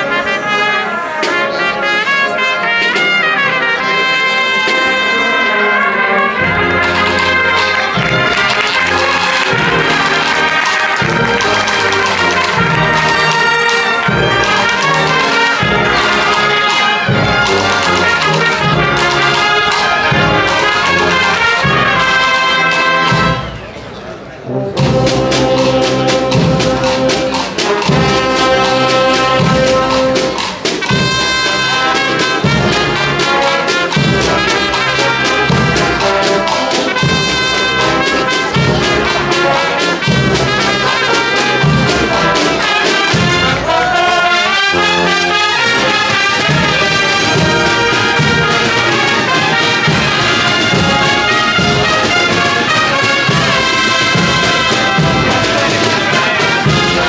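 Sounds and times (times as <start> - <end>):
brass melody: 0.0 - 57.0
drums beating: 6.4 - 23.7, 24.5 - 57.0.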